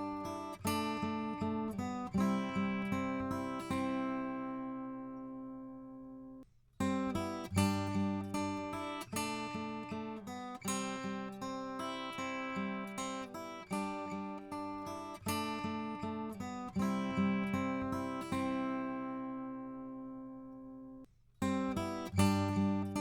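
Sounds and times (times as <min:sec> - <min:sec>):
acoustic guitar picking and strumming: 0:00.0 - 0:23.0.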